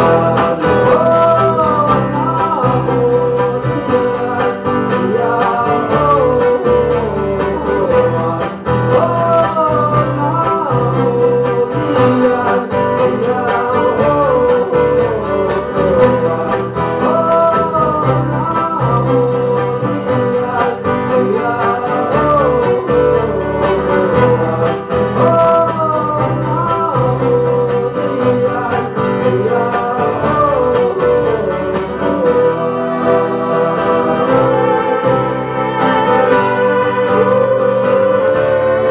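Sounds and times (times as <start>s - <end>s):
guitar accompaniment: 0.0s - 38.9s
man singing: 0.0s - 38.9s
steady bass: 0.0s - 38.9s.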